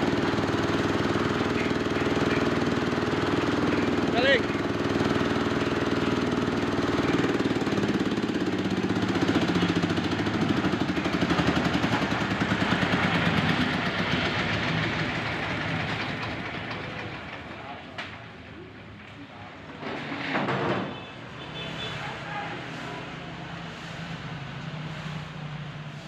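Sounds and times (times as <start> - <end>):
corn sheller engine drone: 0.0 - 18.2, 21.6 - 26.0.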